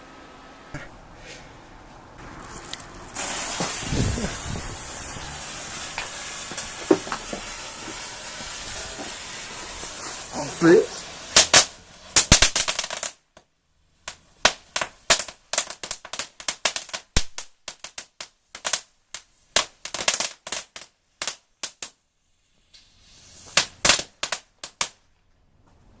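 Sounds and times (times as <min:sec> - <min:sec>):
crackling balls bursting: 0:02.2 - 0:22.0, 0:22.6 - 0:25.4.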